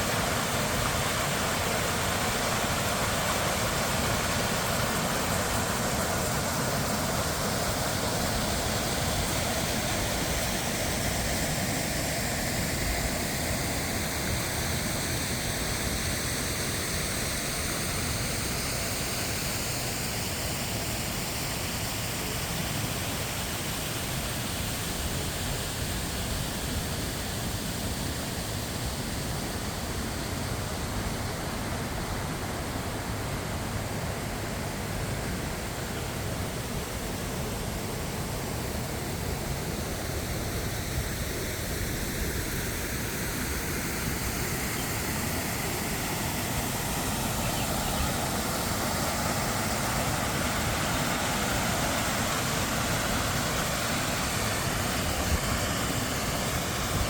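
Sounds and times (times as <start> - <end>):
waterfall rushing: 0.0 - 20.6, 28.8 - 57.0.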